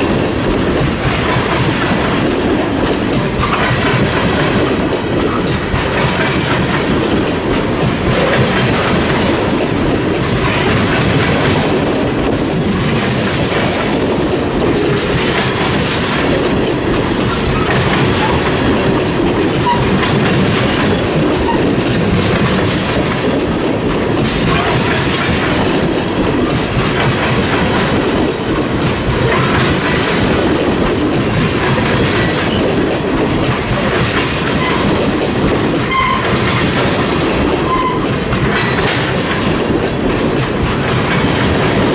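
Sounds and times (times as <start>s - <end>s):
train wheels clicking over rail joints: 0.0s - 41.9s.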